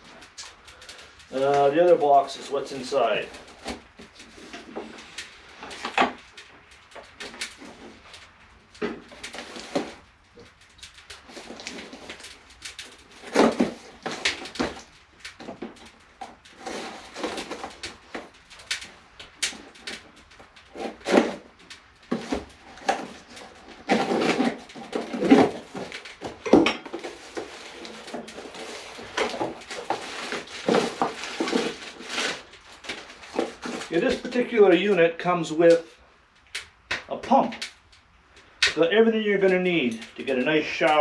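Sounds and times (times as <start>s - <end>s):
cardboard and packing rustling: 1.0s - 35.0s.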